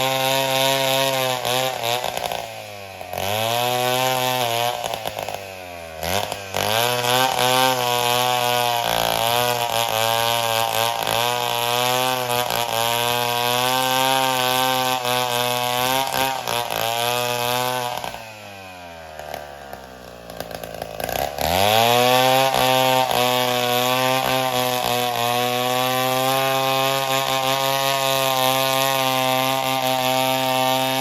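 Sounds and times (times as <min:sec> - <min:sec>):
chainsaw engine revving: 0:00.0 - 0:31.0.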